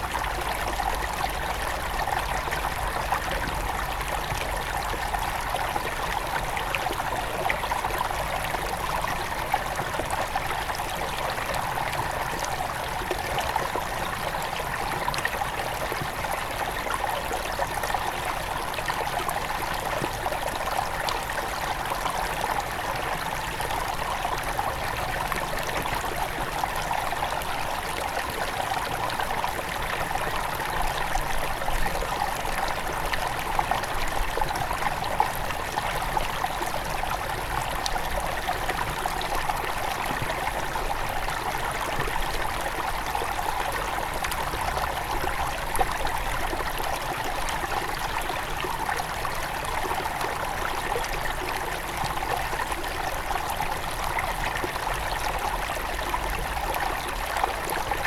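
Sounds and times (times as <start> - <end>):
river flowing and trickling: 0.0 - 58.0.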